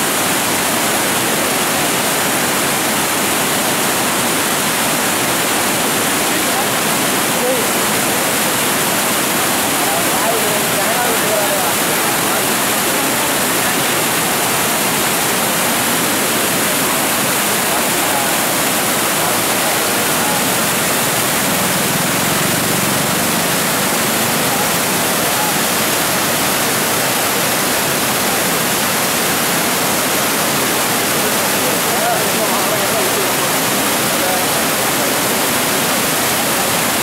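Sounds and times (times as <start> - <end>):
floodwater rushing through spillway: 0.0 - 37.0.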